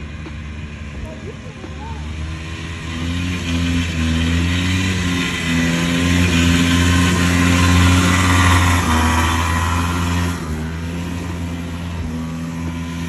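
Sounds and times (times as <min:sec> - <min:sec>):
vehicle engine low hum: 0:00.0 - 0:13.0.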